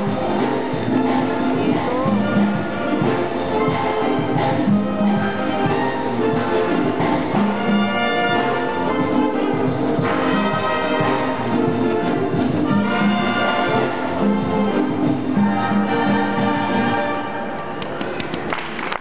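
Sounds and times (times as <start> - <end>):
drum kit: 0.0 - 17.2
clarinets and brass holding notes: 0.0 - 17.8
wind band playing: 0.0 - 17.8.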